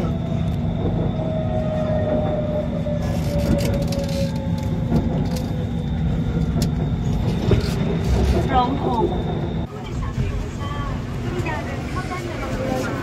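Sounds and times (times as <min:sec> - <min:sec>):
train car rumble: 0:00.0 - 0:13.0.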